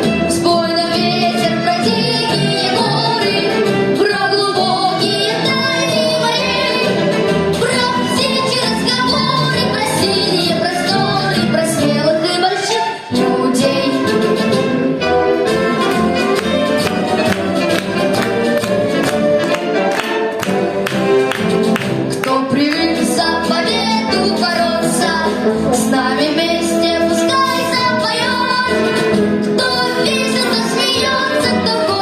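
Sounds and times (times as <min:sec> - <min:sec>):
orchestral accompaniment: 0:00.0 - 0:32.0.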